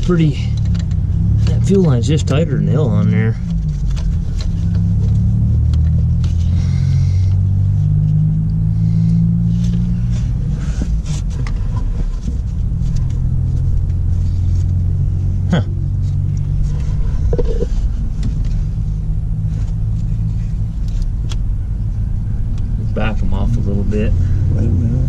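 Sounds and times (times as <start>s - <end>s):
low mechanical rumble: 0.0s - 25.0s.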